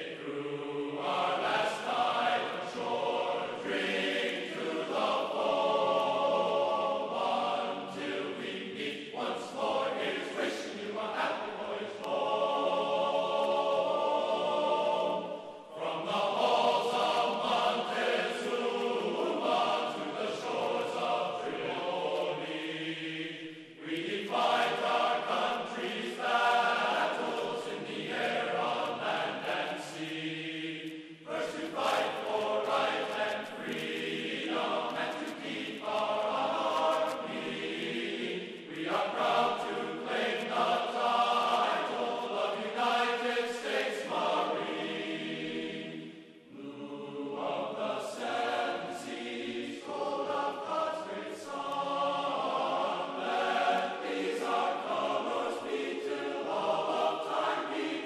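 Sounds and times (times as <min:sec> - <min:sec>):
choir singing long notes: 0:00.0 - 0:58.0.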